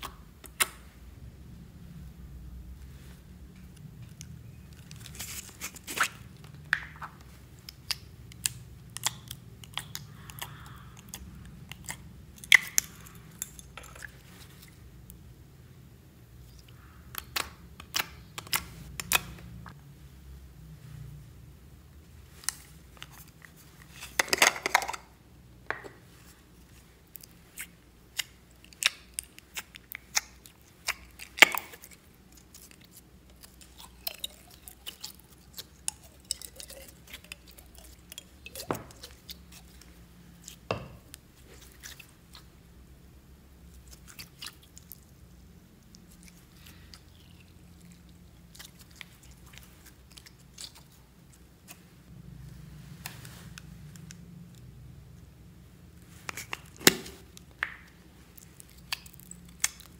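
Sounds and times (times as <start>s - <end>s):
sticky slime squishes: 1.6s - 19.8s, 22.1s - 59.9s.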